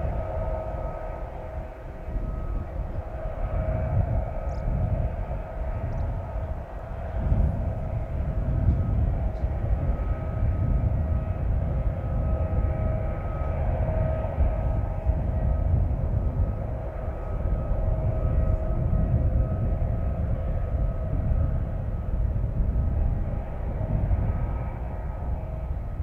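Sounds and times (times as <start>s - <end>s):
low machinery rumble: 0.0s - 26.0s
steady whine: 0.0s - 26.0s.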